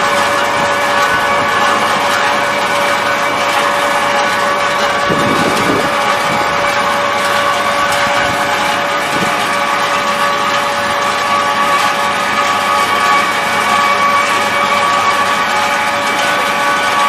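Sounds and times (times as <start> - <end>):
machinery humming and whining: 0.0 - 17.0.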